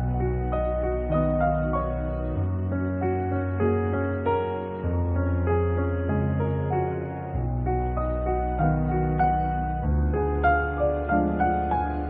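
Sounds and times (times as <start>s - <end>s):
instrumental melody over held bass: 0.0s - 12.0s.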